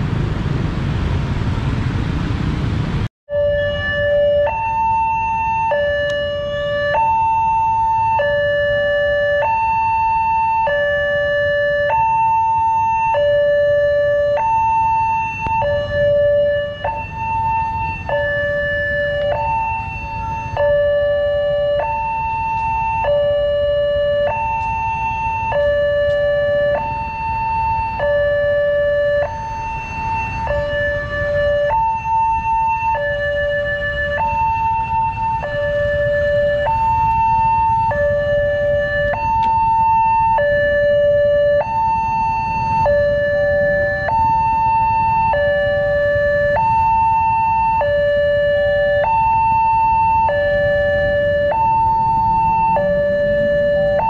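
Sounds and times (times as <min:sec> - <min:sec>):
road traffic rumble: 0:00.0 - 0:54.0
two-tone level-crossing alarm: 0:03.3 - 0:54.0.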